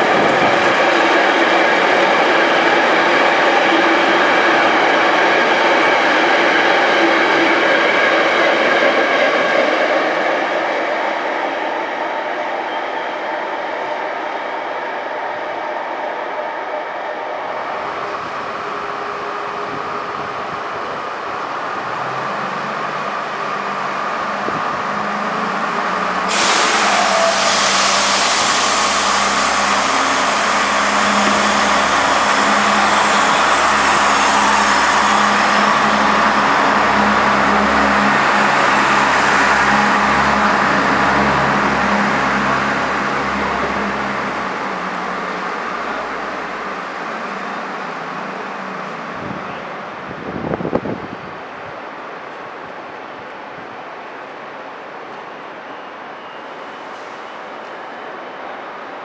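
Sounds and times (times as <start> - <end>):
loud rushing train noise: 0.0 - 59.0
train low hum: 0.0 - 59.0.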